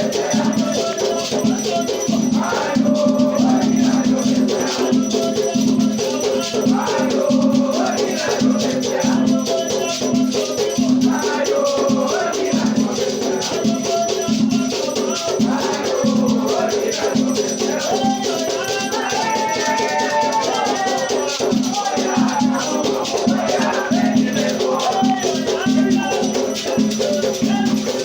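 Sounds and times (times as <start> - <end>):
drum beating steady rhythm: 0.0 - 28.0
gourd shakers rattling: 0.0 - 28.0
voices chanting: 0.0 - 28.0.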